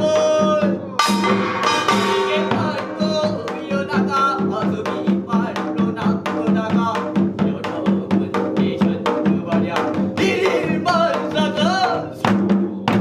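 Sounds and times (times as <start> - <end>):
drums and metal percussion beat: 0.0 - 13.0.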